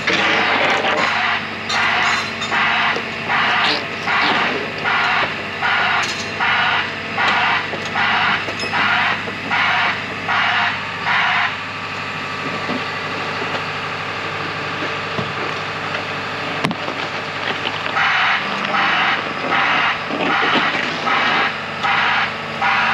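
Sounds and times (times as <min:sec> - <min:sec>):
diesel engine running: 0:00.0 - 0:22.9
hissing backup alarm pulsing: 0:00.0 - 0:22.9.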